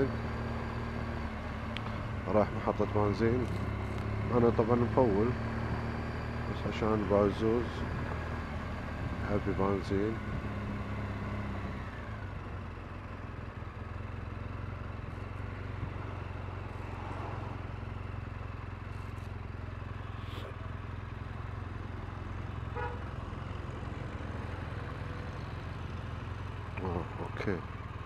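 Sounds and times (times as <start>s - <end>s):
motorcycle engine rumbling: 0.0s - 28.0s
wind and road noise: 0.0s - 28.0s.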